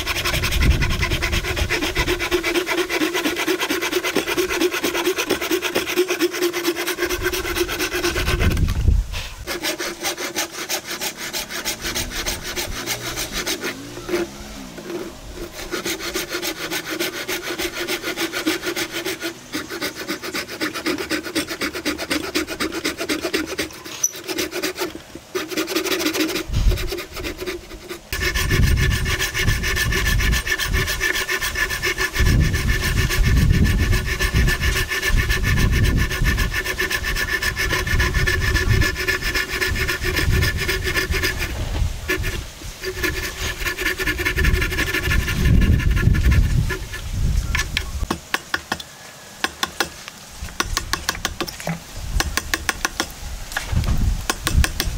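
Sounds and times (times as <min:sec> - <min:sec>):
hand saw cutting wood: 0:00.0 - 0:54.9.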